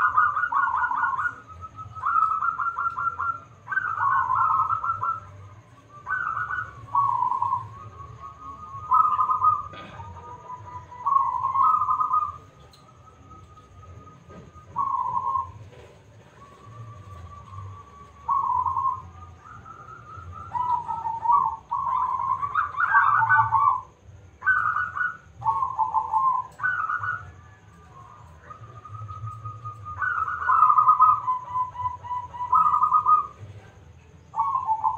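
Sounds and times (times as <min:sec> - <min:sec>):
dove cooing: 0:00.0 - 0:34.9.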